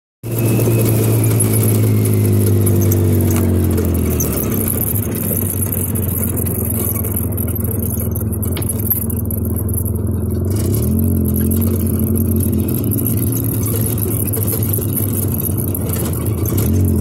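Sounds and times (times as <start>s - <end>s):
atv engine running: 0.2s - 17.0s.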